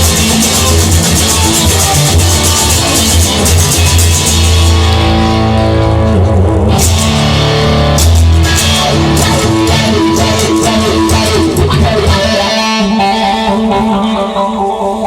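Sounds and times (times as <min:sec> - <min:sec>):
drums: 0:00.0 - 0:14.0
bass guitar: 0:00.0 - 0:15.0
electric guitar: 0:00.0 - 0:15.0.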